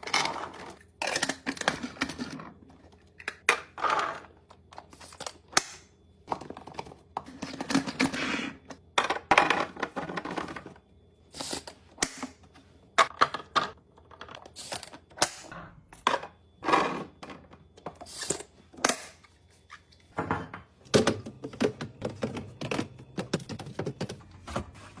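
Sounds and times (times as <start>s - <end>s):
food containers clicking and thunking: 0.0s - 10.8s, 11.4s - 25.0s.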